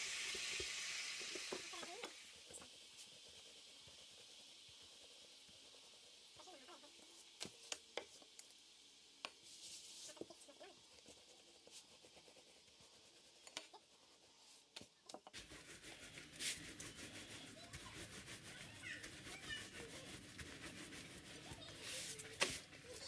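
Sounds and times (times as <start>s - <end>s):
rolling pin rolling dough: 1.3s - 8.3s, 9.2s - 23.0s.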